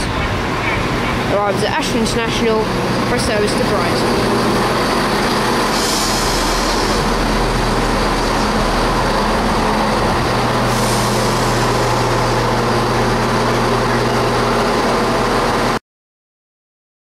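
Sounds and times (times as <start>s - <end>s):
diesel train engine drone: 0.0s - 15.8s.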